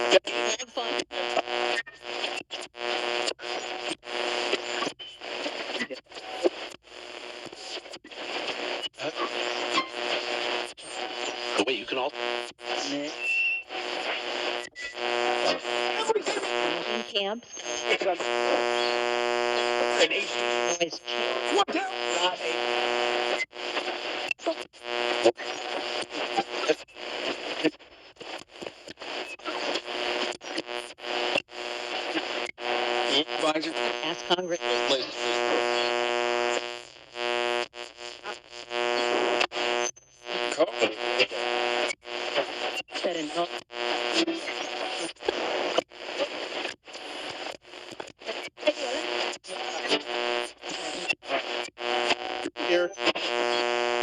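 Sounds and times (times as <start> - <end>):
radio static hiss and crackle: 0.0 - 54.0
snatches of radio broadcast: 0.0 - 54.0.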